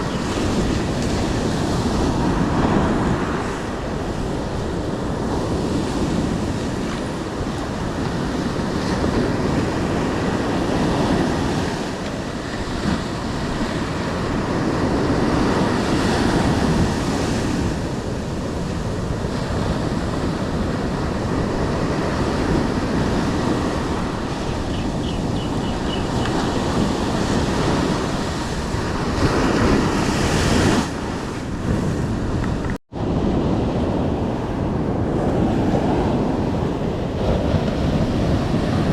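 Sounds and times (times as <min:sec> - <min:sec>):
ocean surf breaking: 0:00.0 - 0:38.9
wind buffeting microphone: 0:00.0 - 0:38.9.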